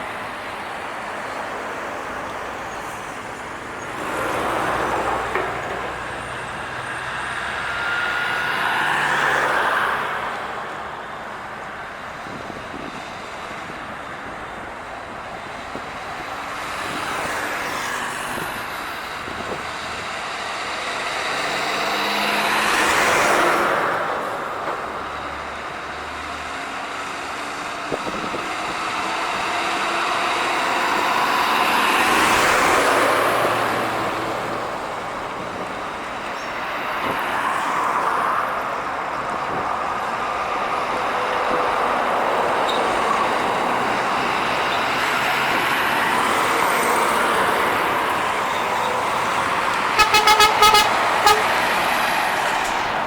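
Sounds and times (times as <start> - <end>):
heavy trucks passing: 0.0 - 53.0.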